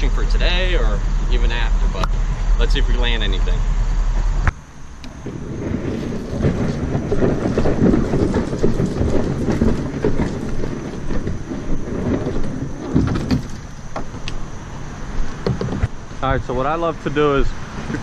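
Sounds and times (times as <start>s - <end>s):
kayak hull scraping over gravel: 0.0s - 18.0s.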